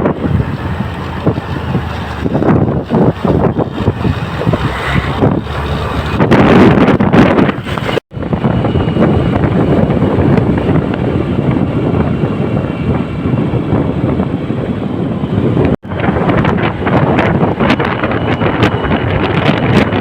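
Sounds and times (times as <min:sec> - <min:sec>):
steady road rumble: 0:00.0 - 0:20.0
wind buffeting microphone: 0:00.0 - 0:20.0.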